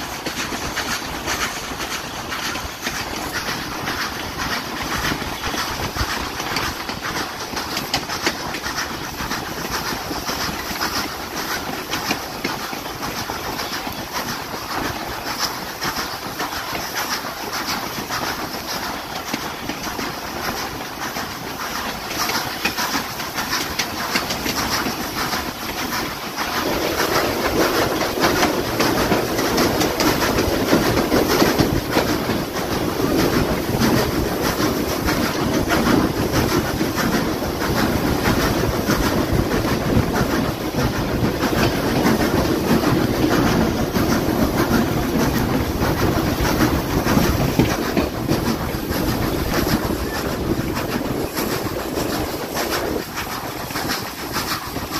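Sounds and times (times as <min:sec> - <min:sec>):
train wheels clicking over rail joints: 0:00.0 - 0:54.9.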